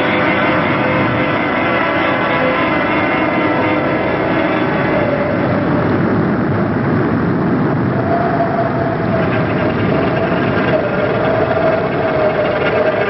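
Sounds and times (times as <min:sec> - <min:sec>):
wavering tone: 0:00.0 - 0:06.1, 0:07.9 - 0:13.0
volcano rumbling: 0:00.0 - 0:13.0.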